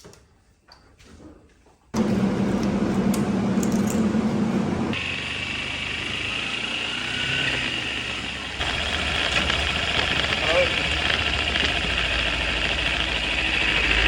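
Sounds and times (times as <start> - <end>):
motorbike engine running: 2.0 - 14.0.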